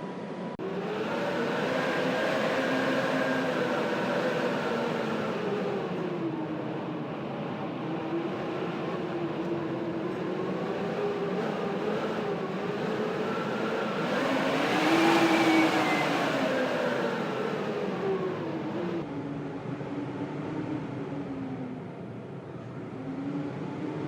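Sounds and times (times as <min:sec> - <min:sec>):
blizzard wind howling: 0:00.0 - 0:24.0.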